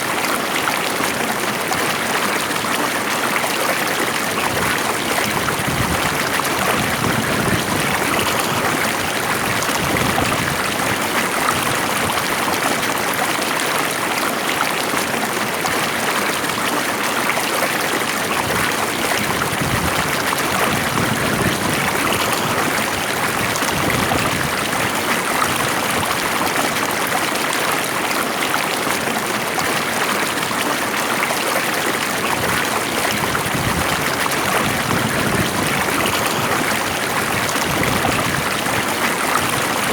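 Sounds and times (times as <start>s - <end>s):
water flowing in a stream: 0.0s - 39.9s.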